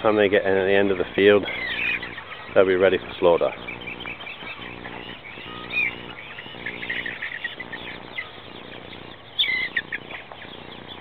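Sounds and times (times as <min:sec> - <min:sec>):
young chickens peeping: 0:00.0 - 0:11.0.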